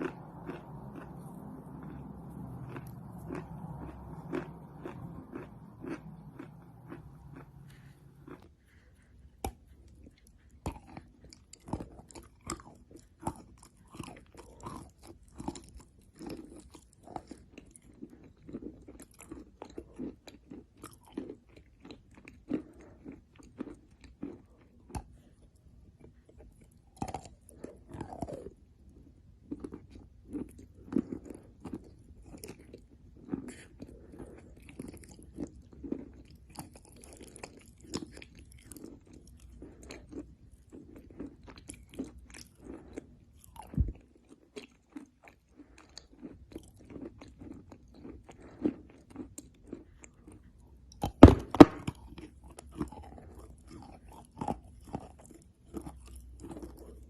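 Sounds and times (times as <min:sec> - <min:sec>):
chalk being chewed: 0:00.0 - 0:28.6, 0:29.5 - 0:57.0.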